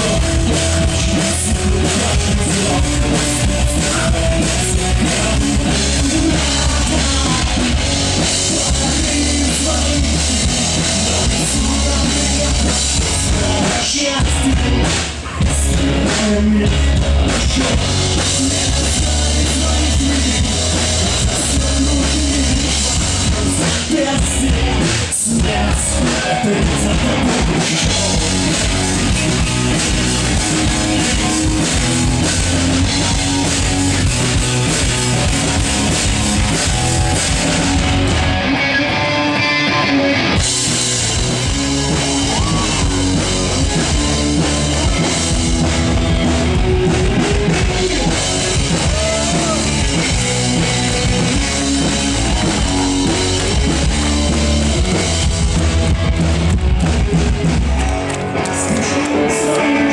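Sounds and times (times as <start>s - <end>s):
drum kit: 0.0s - 59.9s
electric guitar: 0.0s - 59.9s.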